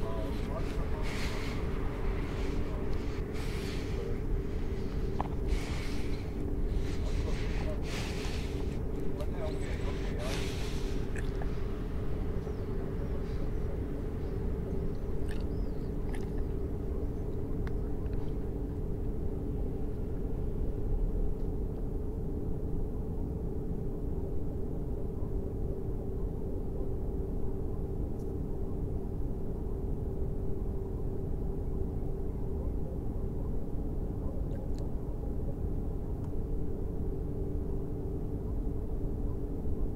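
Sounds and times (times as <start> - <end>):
low rumbling hum: 0.0 - 39.9.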